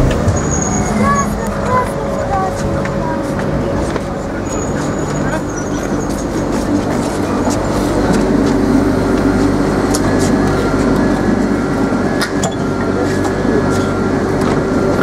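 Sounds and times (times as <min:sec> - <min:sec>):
electric train motor hum: 0:00.0 - 0:15.0
train running noise: 0:00.0 - 0:15.0.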